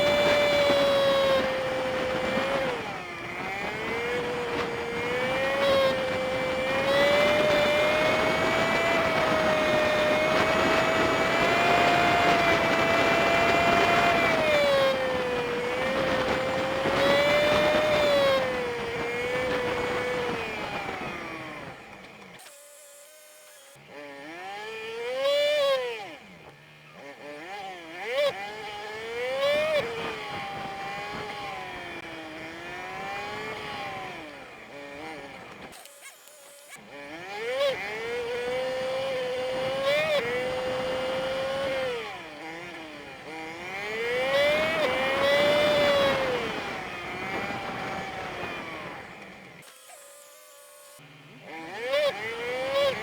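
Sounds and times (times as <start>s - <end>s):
road wind: 0.0s - 22.4s, 23.1s - 53.0s
small motorbike engine whining: 0.0s - 53.0s.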